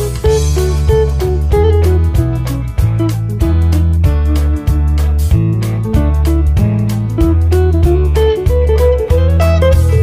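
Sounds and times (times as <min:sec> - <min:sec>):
bass line: 0:00.0 - 0:10.0
guitar music: 0:00.0 - 0:10.0.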